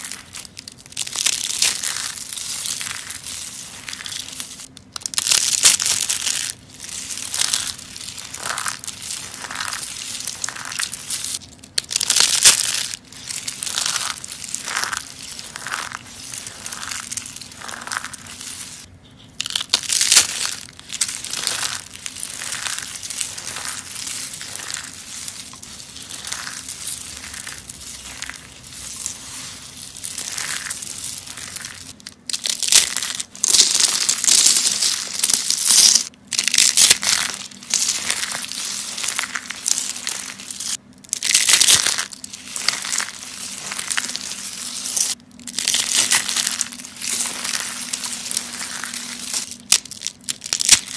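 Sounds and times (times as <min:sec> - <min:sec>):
dried soap crunching: 0:00.0 - 0:50.9.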